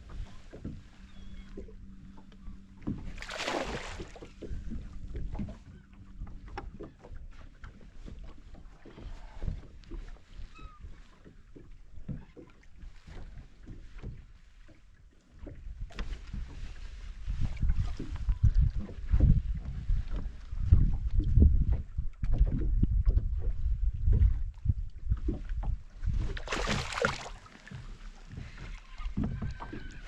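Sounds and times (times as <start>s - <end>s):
wind and water rumble: 0.0s - 30.0s.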